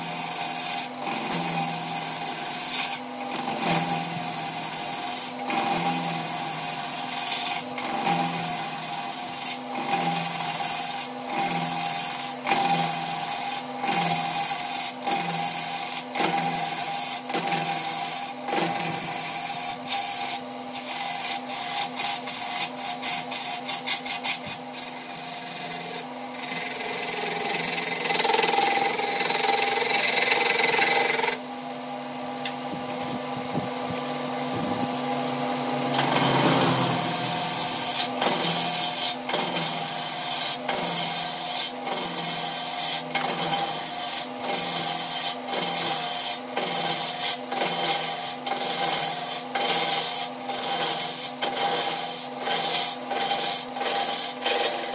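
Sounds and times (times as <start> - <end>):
turning tool scraping wood: 0.0 - 31.4, 32.4 - 54.9
wood lathe motor hum: 0.0 - 54.9.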